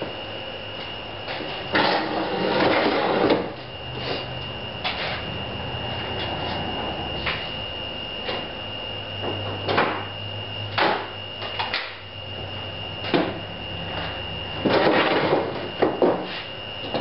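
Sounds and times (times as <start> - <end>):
low hum: 0.0 - 14.8
high-pitched whine: 0.0 - 17.0.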